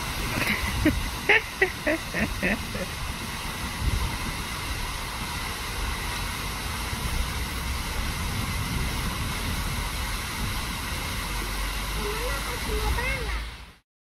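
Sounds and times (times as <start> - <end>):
fountain water splashing: 0.0 - 13.8
low uneven rumble: 0.0 - 13.8.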